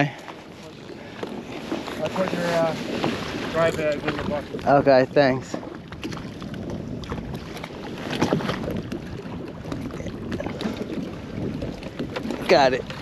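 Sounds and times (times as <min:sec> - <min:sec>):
water lapping against kayak: 0:00.0 - 0:13.0
wind buffeting microphone: 0:00.0 - 0:13.0.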